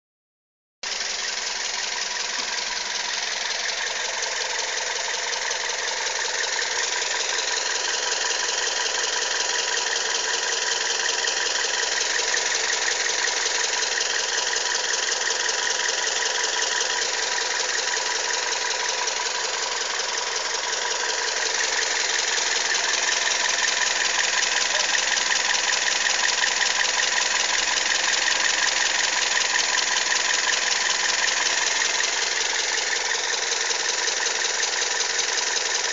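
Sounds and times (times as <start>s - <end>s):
car engine with ticking clatter: 0.8s - 35.9s.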